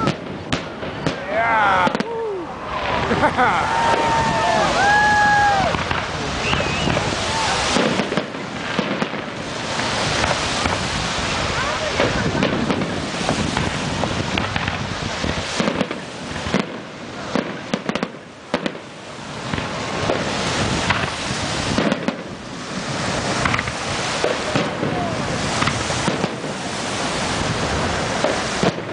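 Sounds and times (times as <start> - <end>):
fireworks booming and crackling: 0.0 - 28.9.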